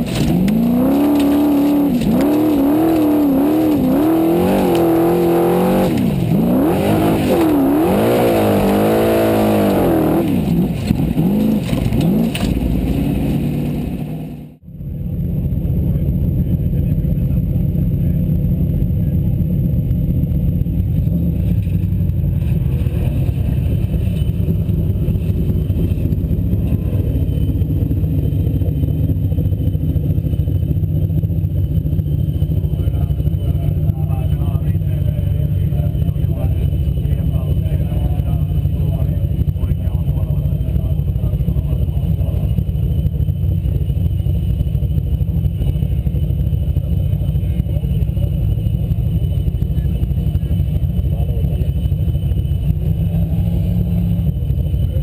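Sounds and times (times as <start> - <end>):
buggy engine revving: 0.0 - 55.0
engine idling low rumble: 0.0 - 55.0.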